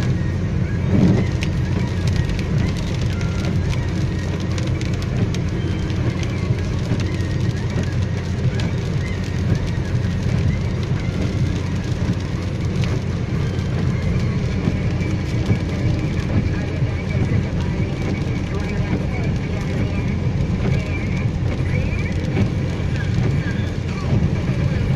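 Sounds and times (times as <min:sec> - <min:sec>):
car driving on wet road: 0:00.0 - 0:24.9.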